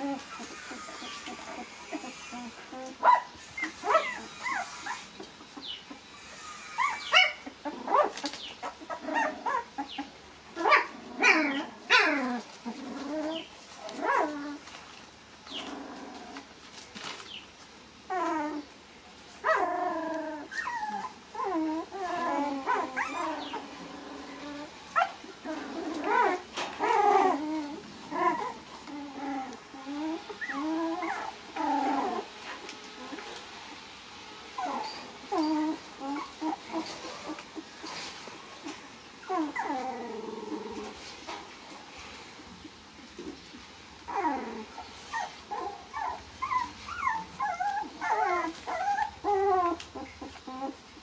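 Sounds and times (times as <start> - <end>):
puppies whimpering and yipping: 0.0 - 14.8, 18.1 - 18.8, 19.4 - 33.4, 34.5 - 41.1, 44.1 - 51.0.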